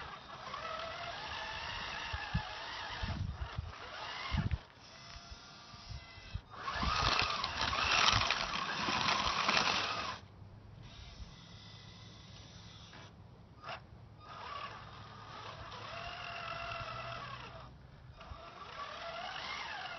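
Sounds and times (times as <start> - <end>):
rc truck motor whining: 0.0 - 19.9.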